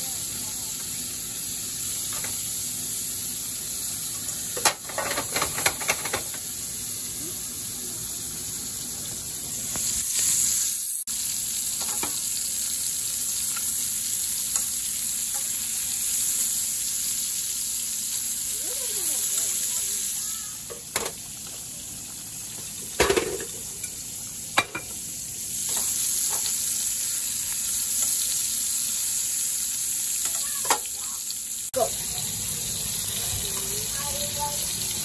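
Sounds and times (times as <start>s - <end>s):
sausage sizzling in oil: 0.0s - 35.0s.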